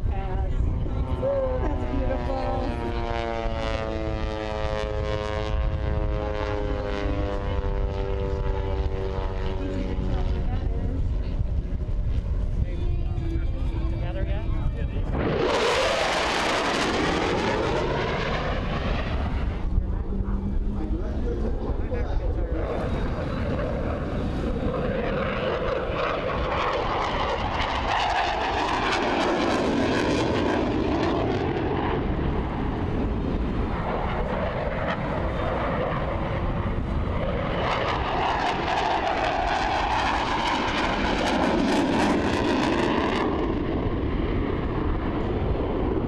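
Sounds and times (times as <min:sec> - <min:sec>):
jet flying past: 0:00.0 - 0:46.0.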